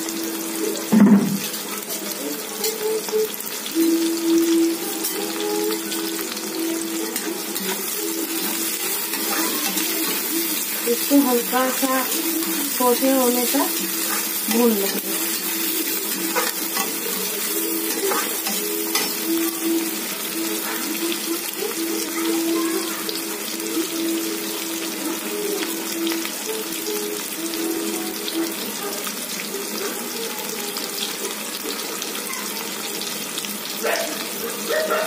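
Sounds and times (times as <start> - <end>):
vegetables sizzling in hot oil: 0.0 - 35.0.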